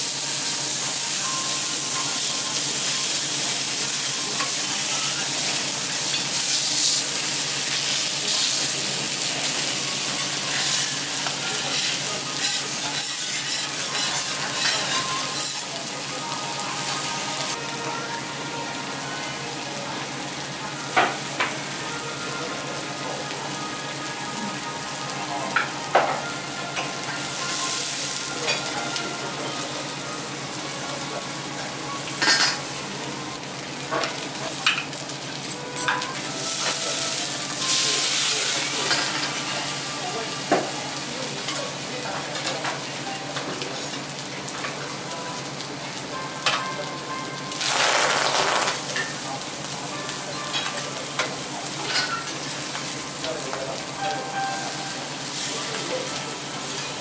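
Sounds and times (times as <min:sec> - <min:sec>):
food sizzling on griddle: 0:00.0 - 0:57.0.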